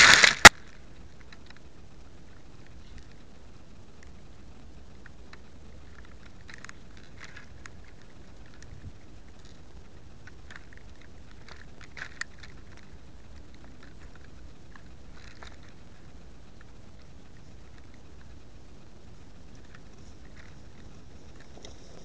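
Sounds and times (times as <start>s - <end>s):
light clicks and crackles: 0.0s - 22.0s.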